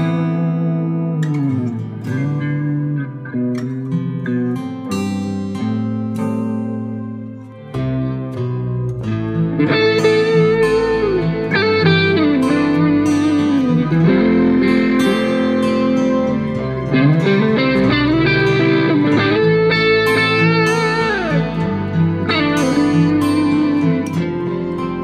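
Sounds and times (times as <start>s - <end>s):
guitar music with bending notes: 0.0s - 25.0s.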